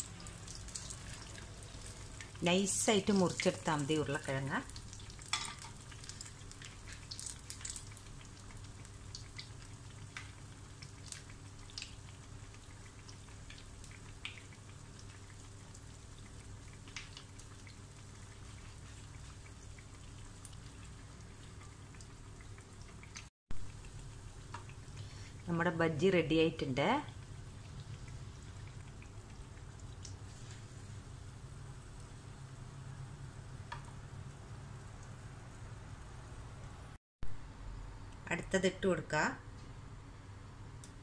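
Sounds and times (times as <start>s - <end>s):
food deep-frying in oil: 0.0s - 37.4s.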